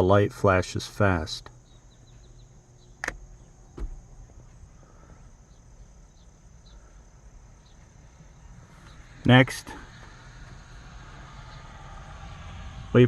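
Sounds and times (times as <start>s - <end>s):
crickets chirping: 0.0s - 13.0s
steady high whine: 0.0s - 13.0s.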